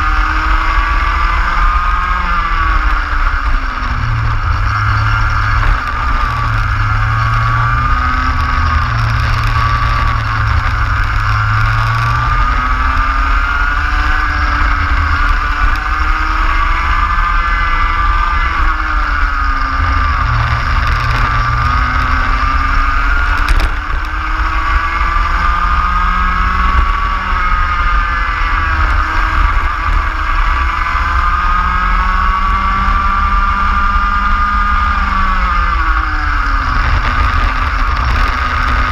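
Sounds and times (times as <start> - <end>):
racing kart engine revving: 0.0 - 38.9.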